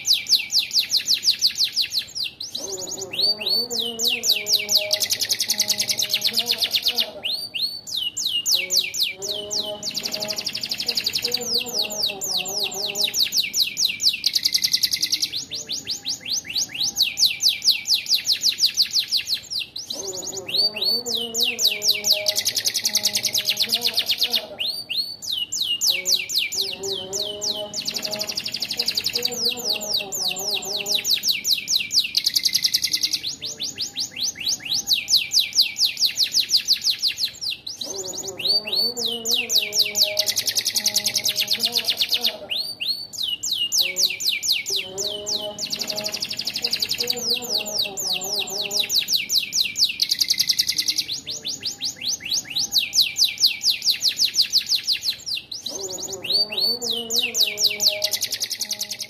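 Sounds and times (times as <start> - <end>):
canary singing trilled notes: 0.0 - 59.0.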